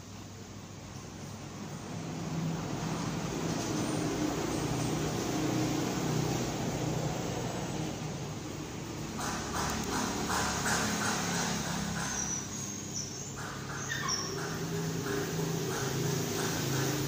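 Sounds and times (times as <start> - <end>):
mechanical hum: 0.0 - 17.0
rushing noise: 1.3 - 17.0.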